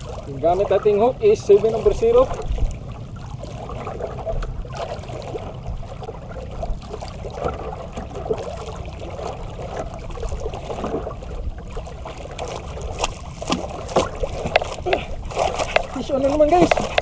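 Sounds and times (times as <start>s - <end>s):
steady low rumble: 0.0s - 17.0s
water lapping against boat hull: 0.0s - 17.0s.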